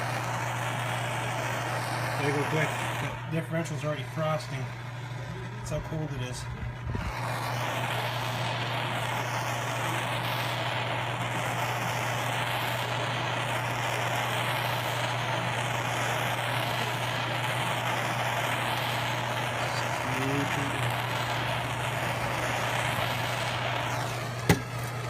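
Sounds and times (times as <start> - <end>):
propane torch flame roaring: 0.0 - 25.0.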